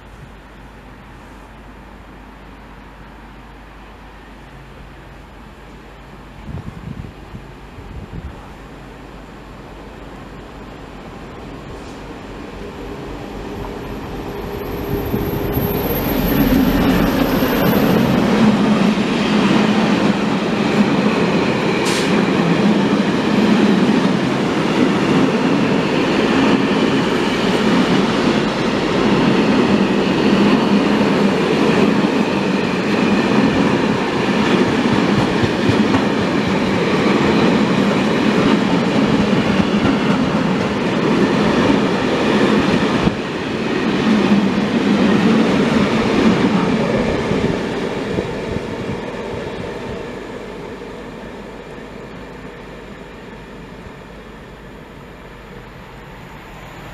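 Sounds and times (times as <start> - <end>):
train wheels rumbling on rails: 4.2 - 56.9.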